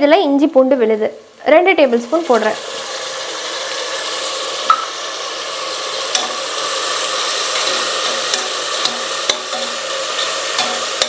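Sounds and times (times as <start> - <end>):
paste sizzling in hot oil: 1.8 - 11.0.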